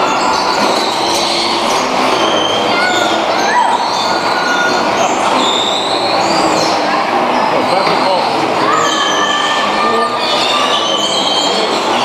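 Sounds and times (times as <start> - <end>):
bumper cars din: 0.0 - 12.0
short high squeals: 0.0 - 12.0.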